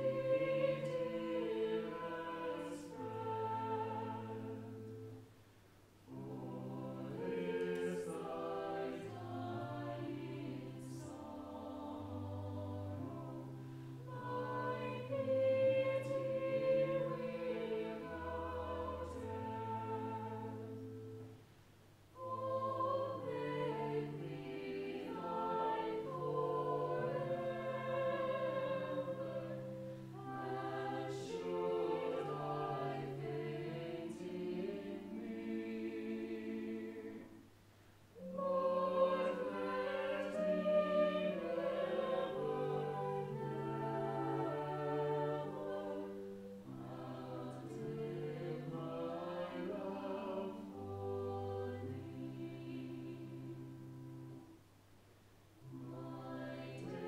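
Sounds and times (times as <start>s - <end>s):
choir singing: 0.0s - 5.2s, 6.1s - 21.4s, 22.2s - 37.5s, 38.2s - 54.4s, 55.6s - 57.0s
organ: 0.0s - 5.2s, 6.1s - 21.4s, 22.2s - 37.4s, 38.2s - 54.5s.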